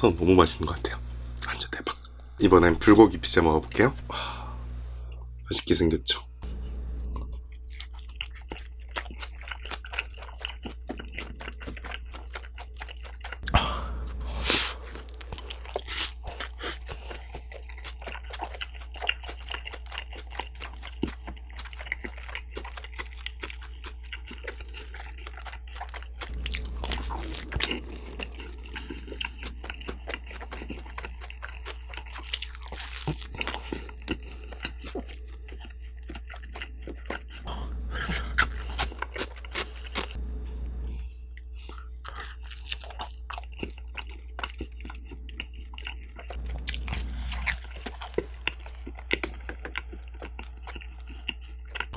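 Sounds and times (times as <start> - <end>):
pizza crust crunching: 6.6 - 40.7, 41.5 - 51.9
wet mouth clicks chewing: 7.0 - 13.6, 14.4 - 40.2, 41.3 - 51.9.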